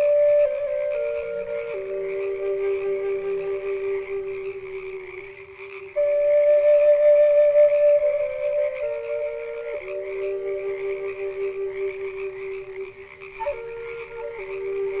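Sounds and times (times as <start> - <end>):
frog croaking: 0.0 - 15.0
slow flute music: 0.0 - 15.0.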